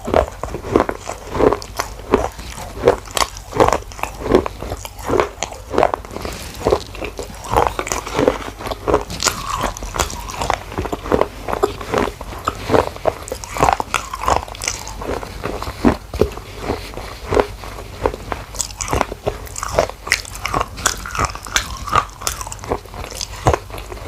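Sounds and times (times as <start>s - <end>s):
crunchy biting and chewing: 0.0s - 24.0s.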